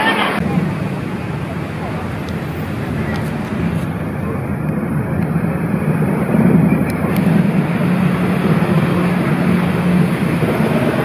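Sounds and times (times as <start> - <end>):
low engine drone: 0.0 - 11.0
outdoor noise: 0.0 - 11.0.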